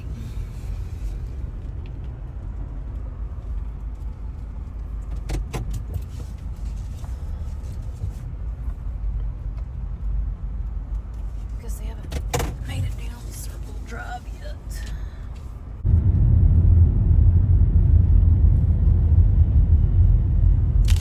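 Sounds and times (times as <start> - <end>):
engine and tyres rumbling: 0.0 - 21.0.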